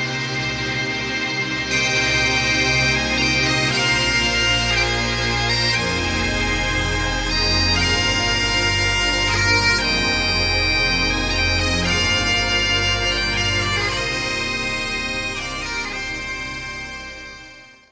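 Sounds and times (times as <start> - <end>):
bagpipe melody with drones: 0.0 - 17.9.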